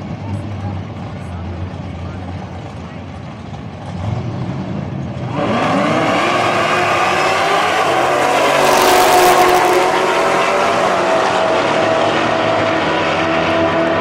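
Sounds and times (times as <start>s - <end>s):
drag racing cars accelerating: 0.0s - 14.0s.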